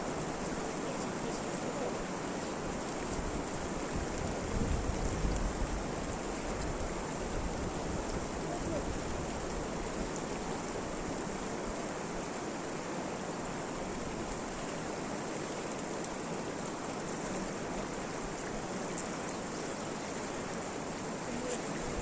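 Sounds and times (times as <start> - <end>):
water rushing: 0.0 - 22.0.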